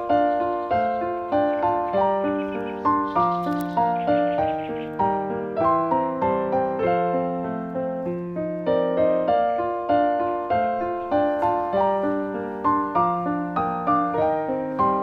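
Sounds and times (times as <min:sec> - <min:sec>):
gentle solo piano piece: 0:00.0 - 0:15.0.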